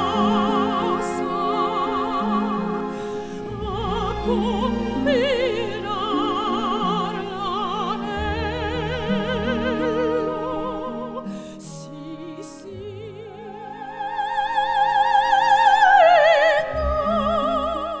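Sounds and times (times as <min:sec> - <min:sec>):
operatic voice singing with vibrato: 0:00.0 - 0:18.0.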